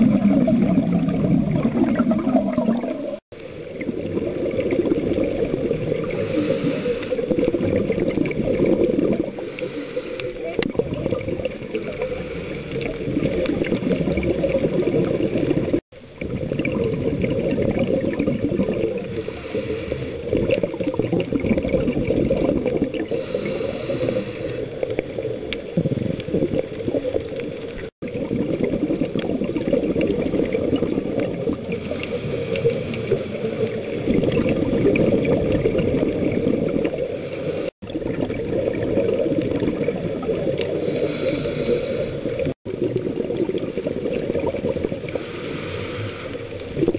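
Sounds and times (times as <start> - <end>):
gurgling bubbles: 0.0 - 46.9.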